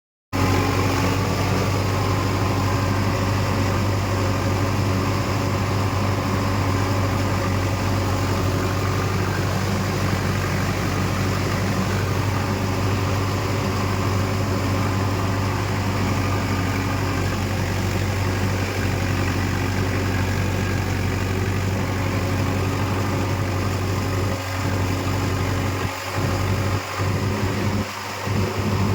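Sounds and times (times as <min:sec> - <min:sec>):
tractor diesel engine idling: 0:00.4 - 0:28.9.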